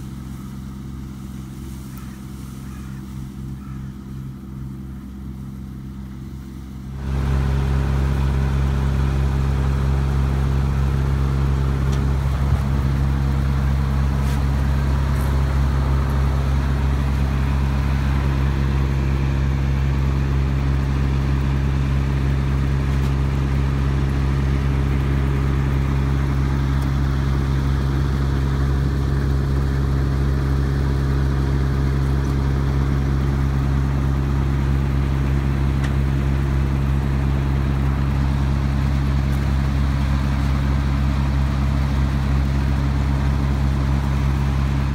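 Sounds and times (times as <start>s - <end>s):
combine harvester engine droning: 0.0s - 44.9s.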